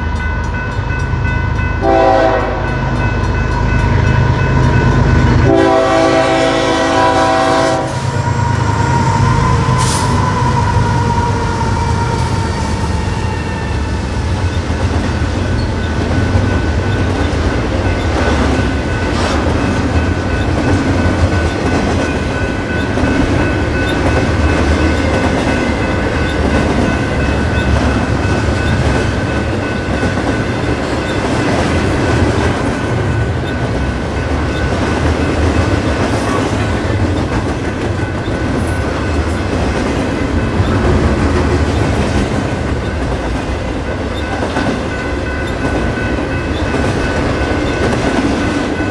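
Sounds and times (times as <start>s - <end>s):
train rumbling past: 0.0s - 48.9s.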